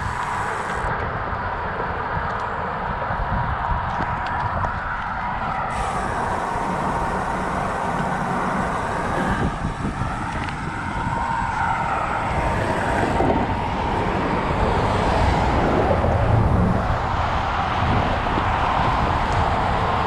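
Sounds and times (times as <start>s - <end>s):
motor traffic passing: 0.0s - 1.0s, 4.0s - 20.0s
wind rush on microphone: 0.0s - 20.0s.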